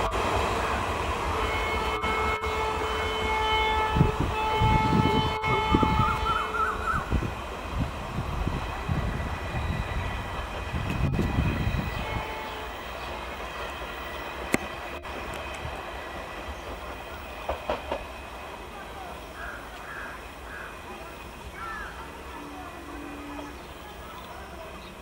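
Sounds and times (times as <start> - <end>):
train coaches rolling on rails: 0.0 - 25.0.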